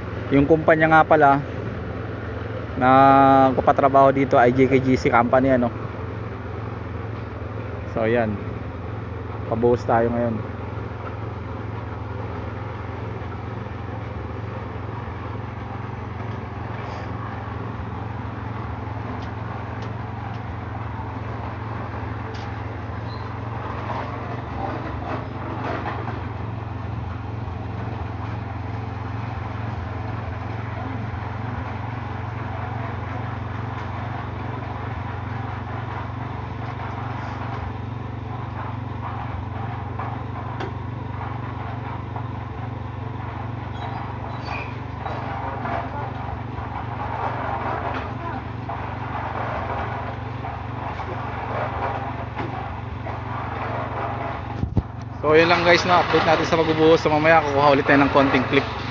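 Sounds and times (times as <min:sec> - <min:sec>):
engine droning: 0:00.0 - 0:58.9
light clatters and knocks: 0:00.1 - 0:58.9.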